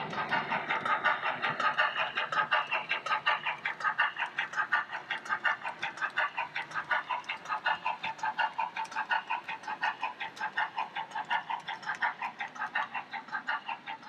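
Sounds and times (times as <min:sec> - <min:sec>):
model train chuffing from speaker: 0:00.0 - 0:14.0.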